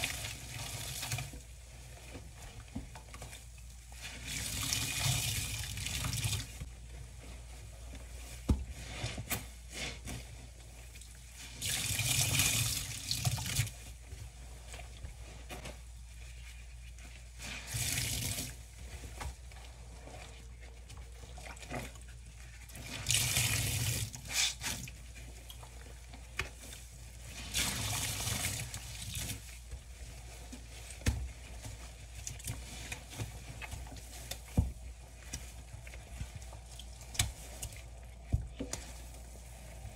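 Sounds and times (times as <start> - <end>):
soapy water splashing into sink: 0.0 - 7.4, 8.2 - 16.3, 16.9 - 39.9.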